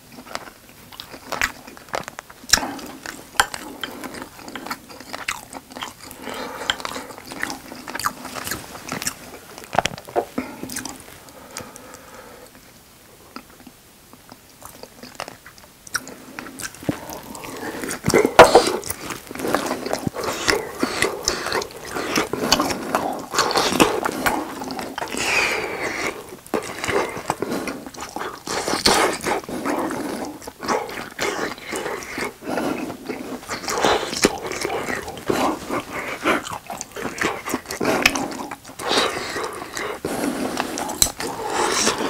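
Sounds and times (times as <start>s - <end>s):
biting and chewing: 0.1s - 11.7s, 13.3s - 42.0s.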